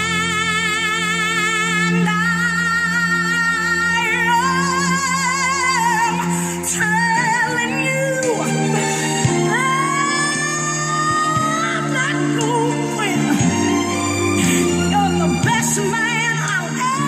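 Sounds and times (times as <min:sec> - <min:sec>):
sustained accompaniment: 0:00.0 - 0:17.0
woman singing with vibrato: 0:00.0 - 0:17.0.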